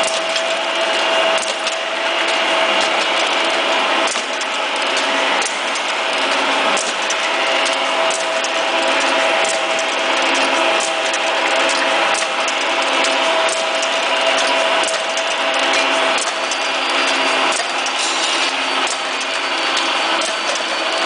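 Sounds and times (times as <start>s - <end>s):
machine motor hum: 0.0s - 21.0s.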